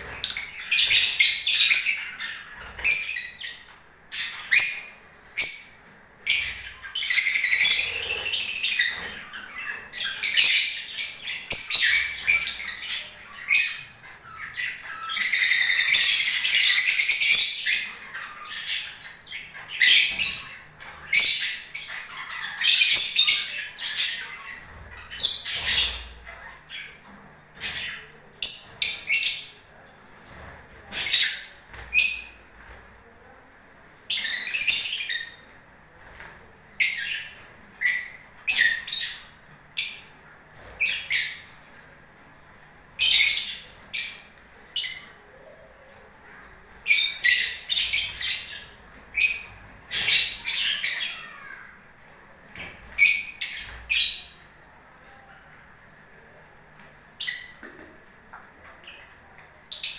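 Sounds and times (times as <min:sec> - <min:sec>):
lovebirds chattering: 0:00.0 - 0:59.9
lovebirds chirping and squawking: 0:00.0 - 0:59.9.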